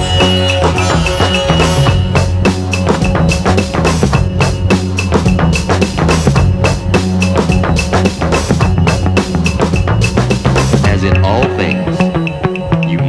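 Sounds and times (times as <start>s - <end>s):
deep bass line: 0.0s - 13.0s
drum-kit beat: 0.0s - 13.0s.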